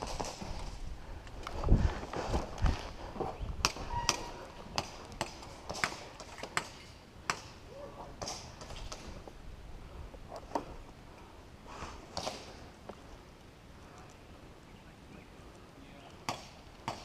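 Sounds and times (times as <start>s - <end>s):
faint movement noise: 0.0s - 16.8s.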